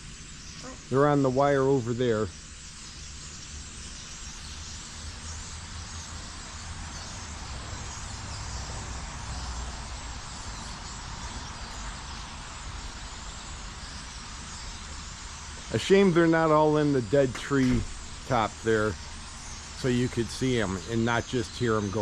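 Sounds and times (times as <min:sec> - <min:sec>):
flock of birds calling: 0:00.0 - 0:22.0.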